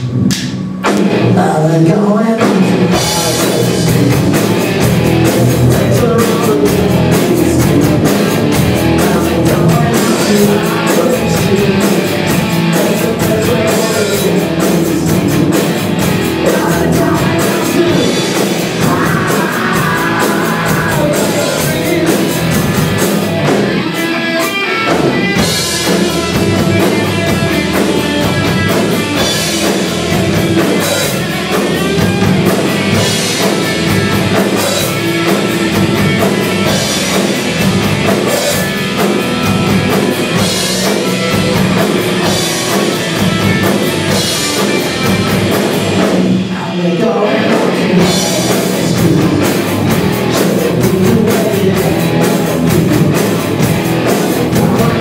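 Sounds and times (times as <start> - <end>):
bass guitar: 0.0 - 55.0
distorted electric guitar: 0.0 - 55.0
drum kit beat: 0.0 - 55.0.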